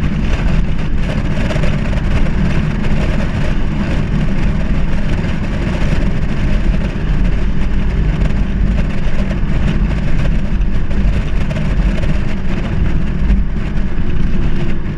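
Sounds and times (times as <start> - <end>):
car engine and exhaust droning: 0.0 - 14.9.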